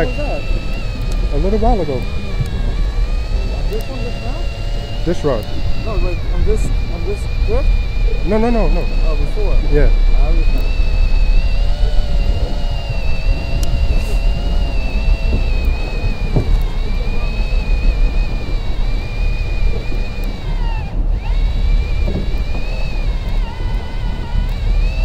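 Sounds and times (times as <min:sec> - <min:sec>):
electric fishing reel whining: 0:00.0 - 0:25.0
low rumble: 0:00.0 - 0:25.0.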